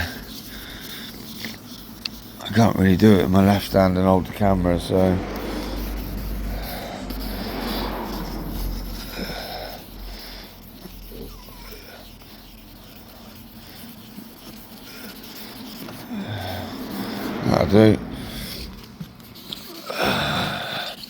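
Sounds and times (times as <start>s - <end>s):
sandpaper rubbing on car panel: 0.0s - 21.0s.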